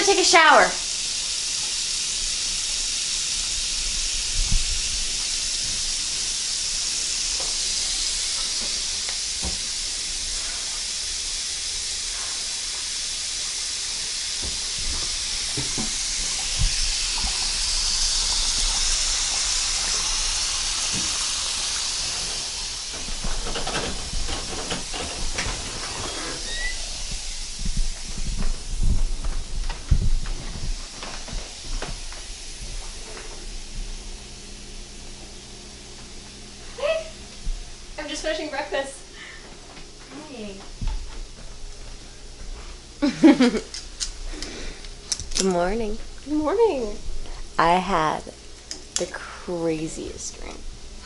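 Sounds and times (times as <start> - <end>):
steady high hiss: 0.0 - 40.7, 41.3 - 51.0.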